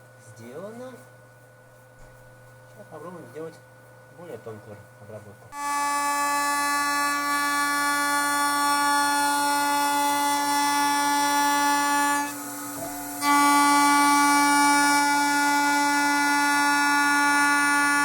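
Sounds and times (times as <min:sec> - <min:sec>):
milling machine buzzing whine: 0:03.0 - 0:18.0.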